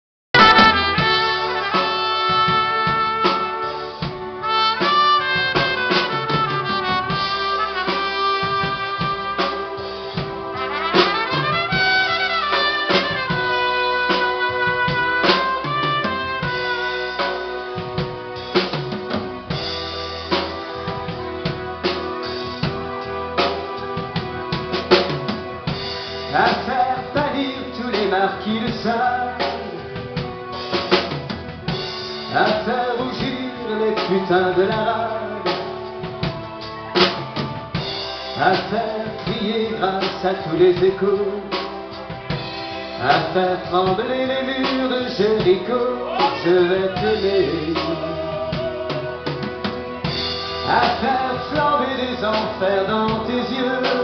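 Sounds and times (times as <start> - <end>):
drum kit: 0.3 - 54.0
trumpet playing melody: 0.4 - 54.0.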